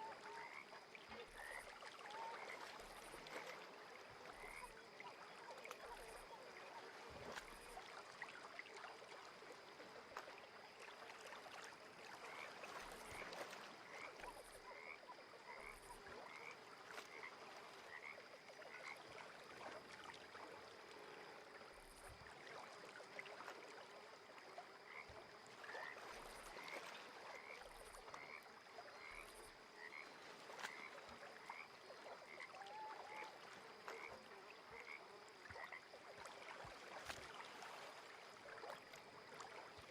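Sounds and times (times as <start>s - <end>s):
frogs chirping: 0.0s - 23.4s, 24.1s - 39.9s.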